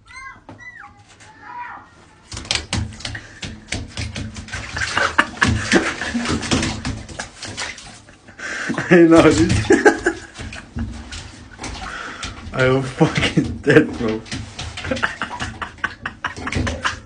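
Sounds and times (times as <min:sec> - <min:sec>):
water splashing in a bathtub: 0:00.0 - 0:17.0.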